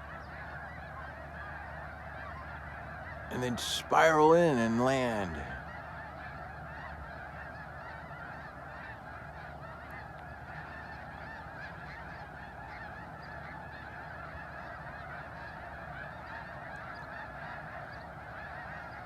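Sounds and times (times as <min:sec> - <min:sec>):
flock of geese honking: 0:00.0 - 0:19.0.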